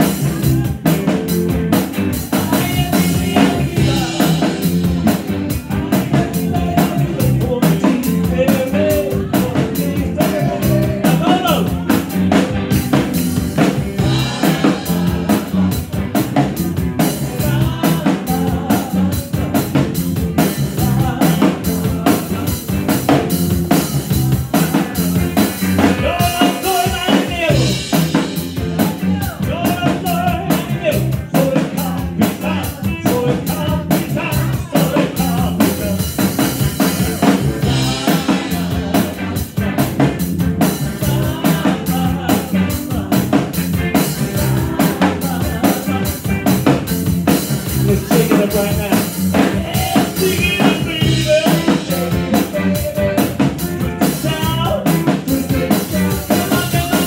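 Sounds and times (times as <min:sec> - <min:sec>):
amplified electric guitar: 0:00.0 - 0:57.0
drum kit beat: 0:00.0 - 0:57.0.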